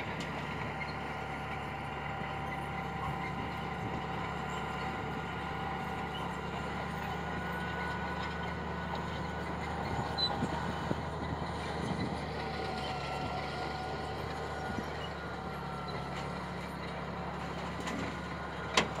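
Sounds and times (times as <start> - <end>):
bulldozer diesel engine under load: 0.0 - 19.0.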